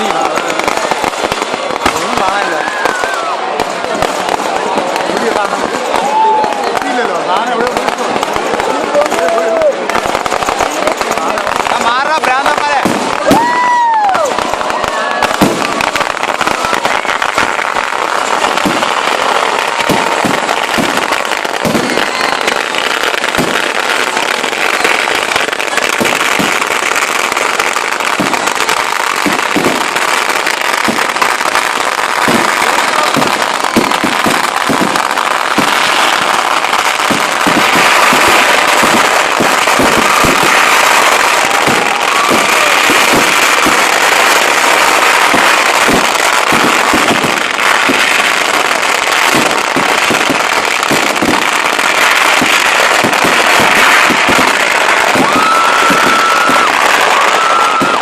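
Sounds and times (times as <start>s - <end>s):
firecrackers crackling and banging: 0.0s - 58.0s.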